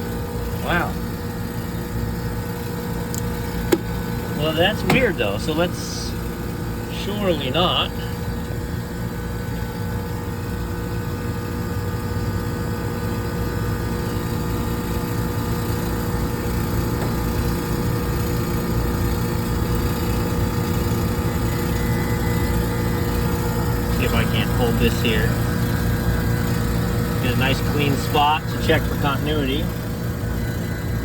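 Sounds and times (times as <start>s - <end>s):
air conditioning unit humming: 0.0s - 31.0s.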